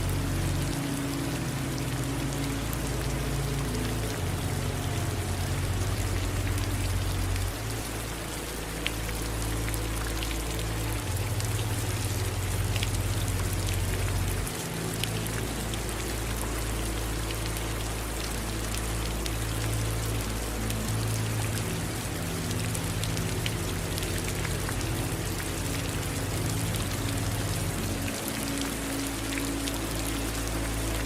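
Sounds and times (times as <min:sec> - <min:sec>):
raindrops ticking: 0:00.0 - 0:31.0
steady rain hiss: 0:00.0 - 0:31.0.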